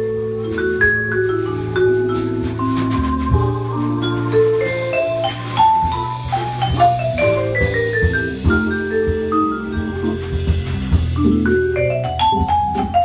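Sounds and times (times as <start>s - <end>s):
drum kit with cymbals: 0.0s - 13.0s
jazz vibraphone runs: 0.0s - 13.0s.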